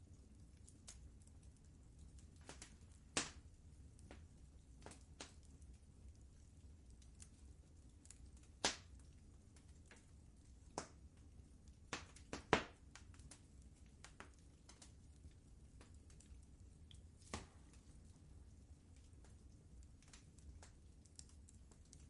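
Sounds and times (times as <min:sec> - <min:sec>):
faint low fire rumble: 0:00.0 - 0:22.0
fire crackling and popping: 0:00.0 - 0:22.0.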